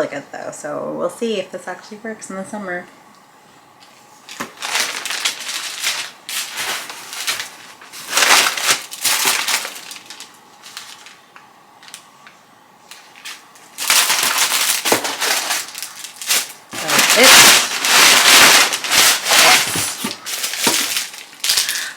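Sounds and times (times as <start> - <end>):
packaging crinkling: 4.2 - 21.9.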